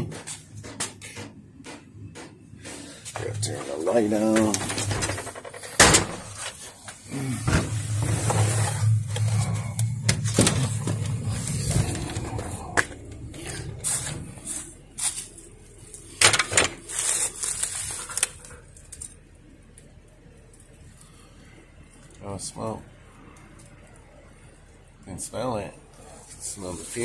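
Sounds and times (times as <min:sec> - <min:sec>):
low steady heater hum: 0:00.0 - 0:27.0.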